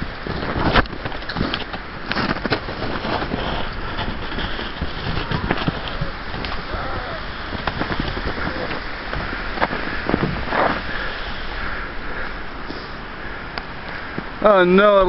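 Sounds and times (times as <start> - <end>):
crackling ride across snow: 0.0 - 15.0
wind buffeting microphone: 0.0 - 15.0.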